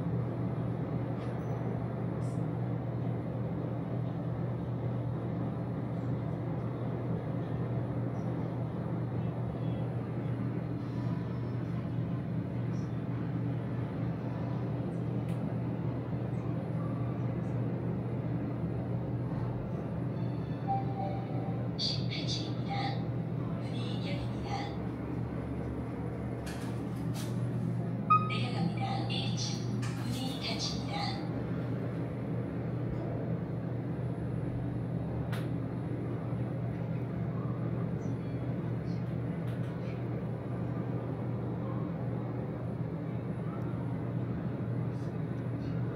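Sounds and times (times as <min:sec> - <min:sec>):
elevator hum and rumble: 0:00.0 - 0:45.9.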